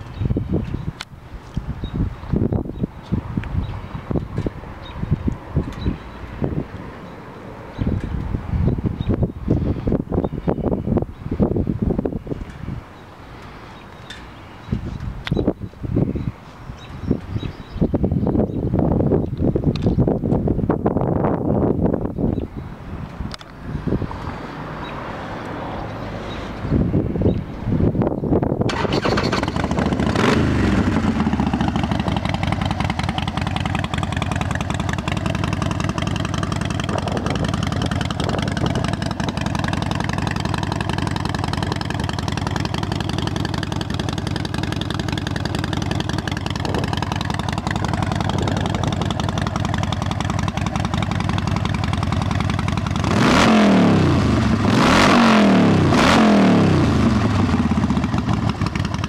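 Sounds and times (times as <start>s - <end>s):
motorcycle engine idling and revving: 0.0s - 21.0s, 21.8s - 59.0s.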